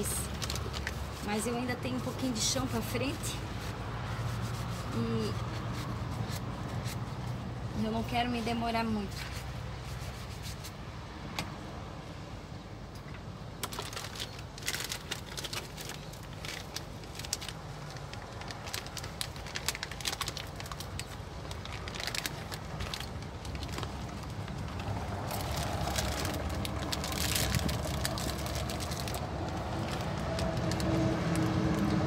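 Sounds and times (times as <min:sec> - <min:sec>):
vehicle engine rumble: 0:00.0 - 0:32.0.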